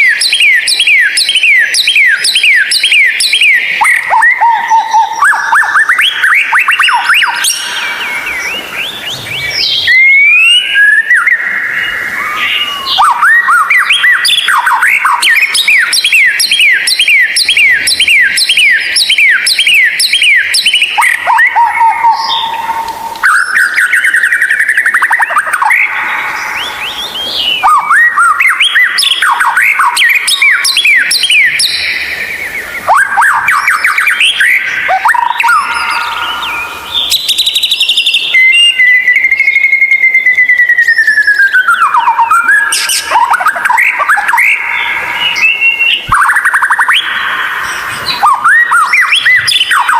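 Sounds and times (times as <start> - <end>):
bird whistling song: 0.0 - 49.9.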